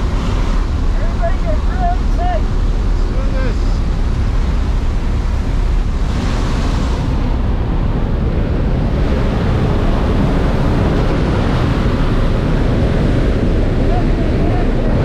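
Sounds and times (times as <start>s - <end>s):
aircraft engine noise: 0.0s - 15.0s
wind rushing: 0.0s - 15.0s.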